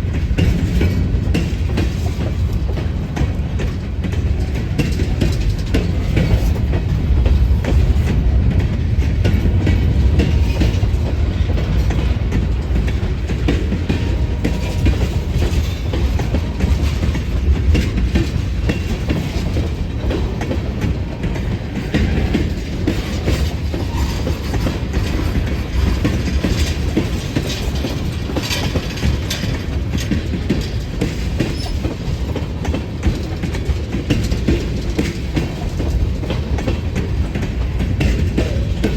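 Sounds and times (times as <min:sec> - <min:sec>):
train rumbling past: 0:00.0 - 0:38.9
wheels clicking over rail joints: 0:00.0 - 0:38.9.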